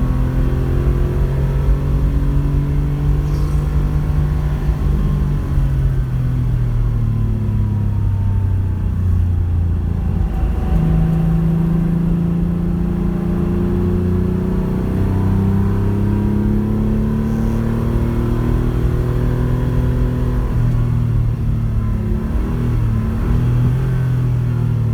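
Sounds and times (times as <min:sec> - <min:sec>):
rally car engine under load: 0:00.0 - 0:24.9.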